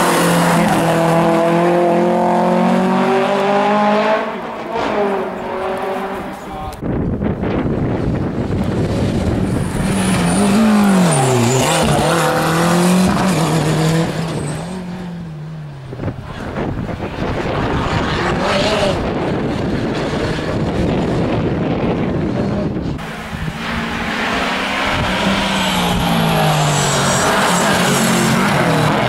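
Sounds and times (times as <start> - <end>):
rally car engine revving: 0.0 - 6.5, 7.5 - 29.0.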